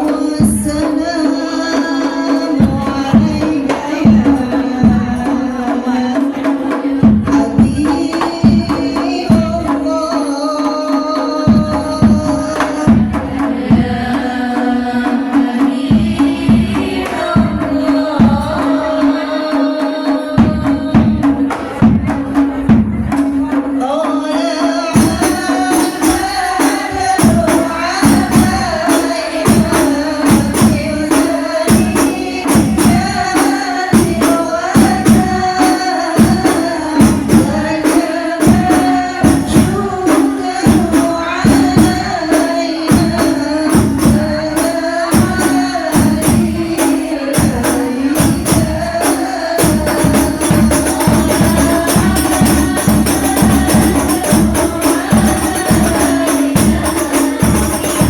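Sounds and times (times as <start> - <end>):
frame drums with jingles: 0.0 - 58.0
voices singing together: 0.0 - 58.0.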